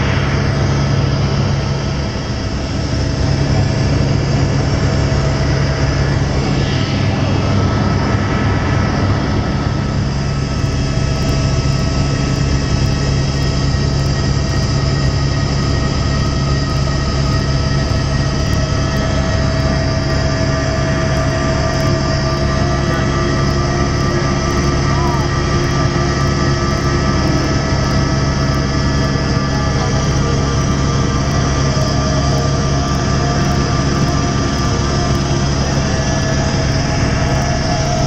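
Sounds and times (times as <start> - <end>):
helicopter engine and rotor hum: 0.0 - 38.0.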